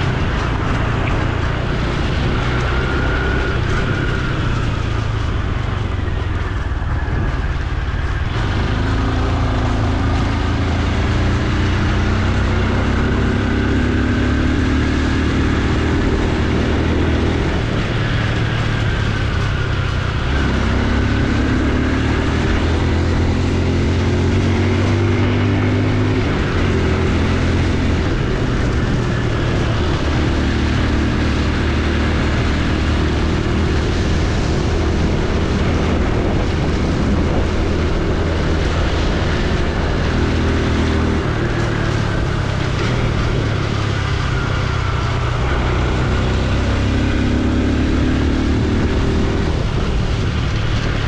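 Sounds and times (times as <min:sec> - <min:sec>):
motorcycle engine running: 0:00.0 - 0:51.0
wind and road noise: 0:00.0 - 0:51.0.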